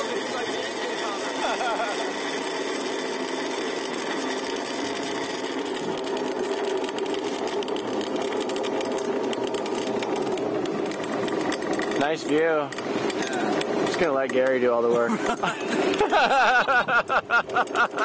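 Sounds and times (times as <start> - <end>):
pulley wheels whirring: 0.0 - 18.0
fast rattling clicks: 1.9 - 16.2, 16.8 - 18.0.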